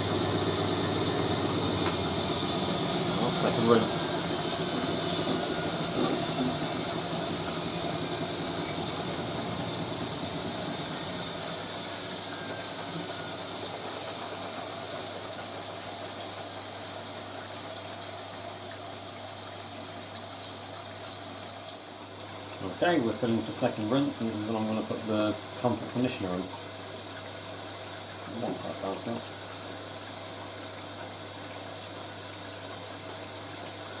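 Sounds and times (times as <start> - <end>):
washing machine drain pump humming: 0.0 - 34.0.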